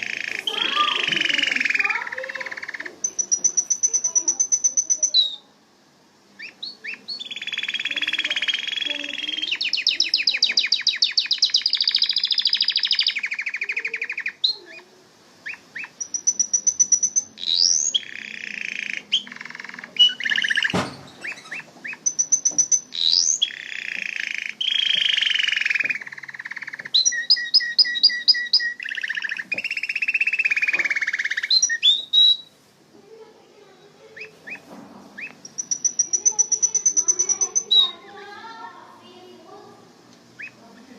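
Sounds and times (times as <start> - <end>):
canary singing: 0.0 - 5.6, 6.2 - 32.6, 33.2 - 40.9.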